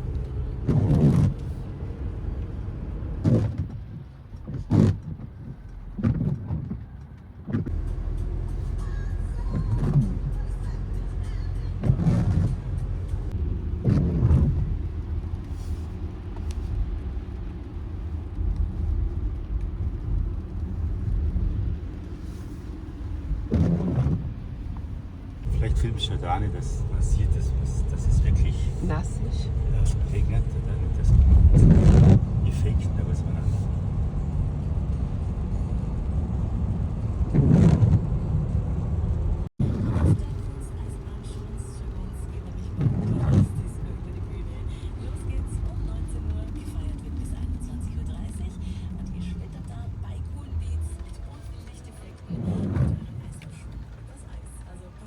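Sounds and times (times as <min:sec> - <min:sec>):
car road and engine rumble: 0:00.0 - 0:55.0
rain: 0:00.0 - 0:55.0
squeaking windscreen wiper sweep: 0:00.0 - 0:55.0.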